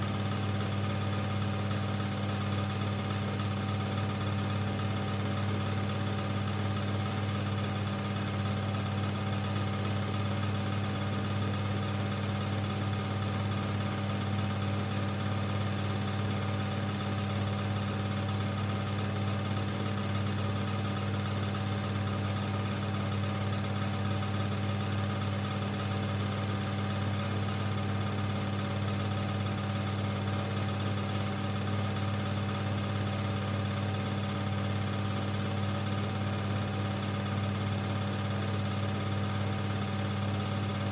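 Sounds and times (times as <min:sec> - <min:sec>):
film projector motor and fan hum: 0:00.0 - 0:40.9.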